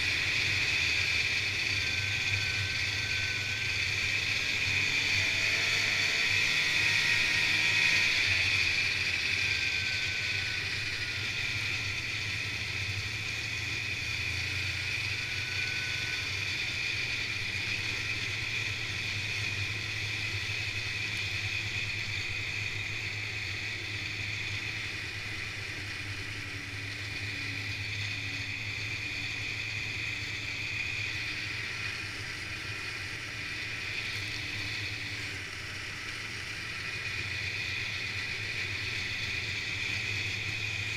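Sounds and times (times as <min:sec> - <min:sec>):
snowmobile engine droning: 0:00.0 - 0:40.9.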